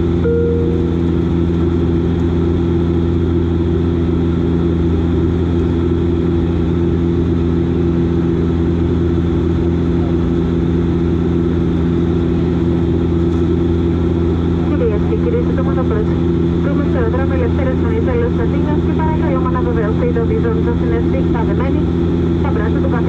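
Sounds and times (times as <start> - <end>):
turboprop engines droning: 0.0 - 23.0.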